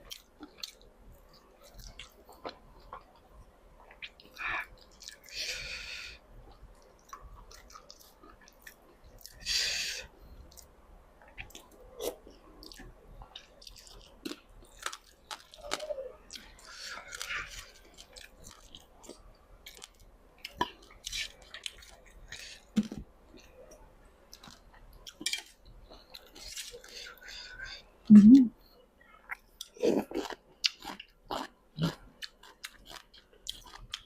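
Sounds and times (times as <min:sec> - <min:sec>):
person chewing and crunching: 0:00.0 - 0:05.4, 0:06.8 - 0:09.5, 0:10.5 - 0:23.5, 0:24.3 - 0:27.8, 0:29.2 - 0:34.0.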